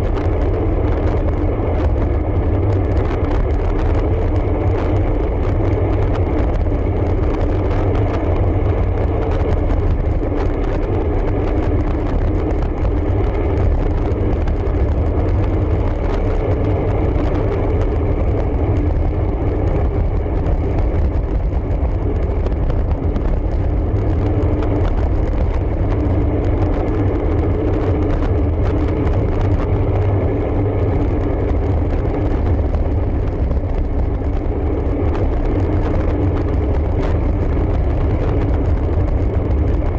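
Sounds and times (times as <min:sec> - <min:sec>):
bike tyre hum: 0:00.0 - 0:39.9
wind buffeting microphone: 0:00.0 - 0:39.9.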